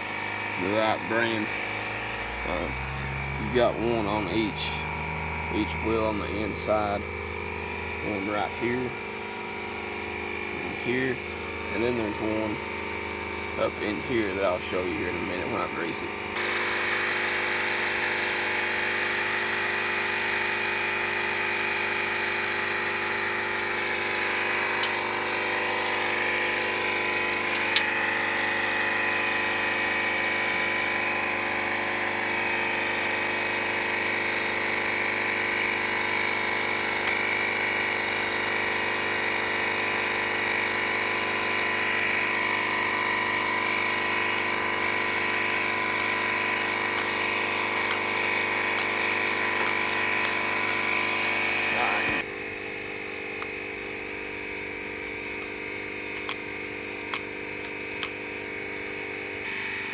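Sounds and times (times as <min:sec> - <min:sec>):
motor humming and whining: 0:00.0 - 0:59.9.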